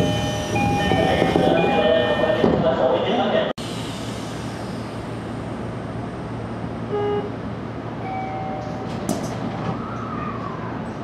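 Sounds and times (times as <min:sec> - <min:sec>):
train cab low hum: 0:00.0 - 0:11.0.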